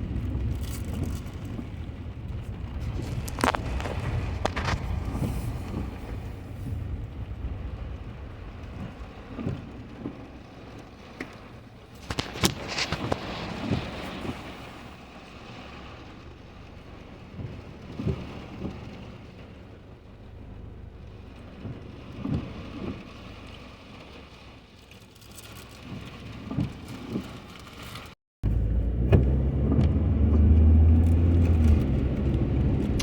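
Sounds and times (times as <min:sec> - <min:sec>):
car road and engine rumble: 0:00.0 - 0:33.0
rain tapping on car: 0:00.0 - 0:33.0.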